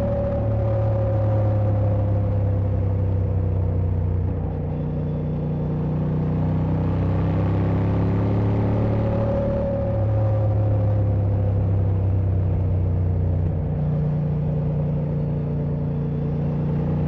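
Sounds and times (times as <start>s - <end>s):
motorcycle engine running: 0.0s - 9.6s, 10.3s - 17.0s.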